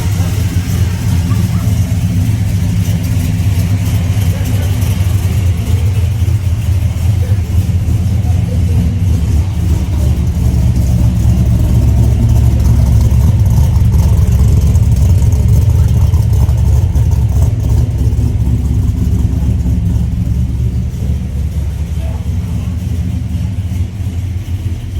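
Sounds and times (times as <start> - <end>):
deep v eight exhaust rumble: 0.0 - 24.9.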